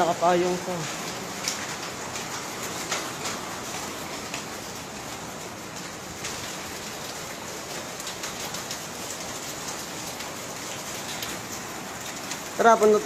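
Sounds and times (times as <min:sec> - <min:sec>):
rain on a sheet roof: 0:00.0 - 0:13.0.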